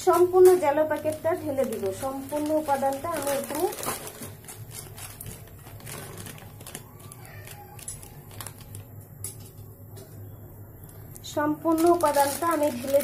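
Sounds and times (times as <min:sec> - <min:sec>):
plastic packet crinkling: 0:00.0 - 0:09.5, 0:10.8 - 0:13.0
low steady hum: 0:00.0 - 0:13.0.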